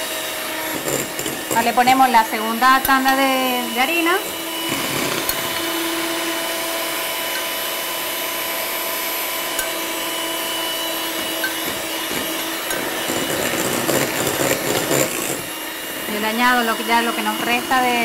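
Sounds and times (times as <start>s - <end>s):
electric hand mixer whining: 0.0s - 18.0s.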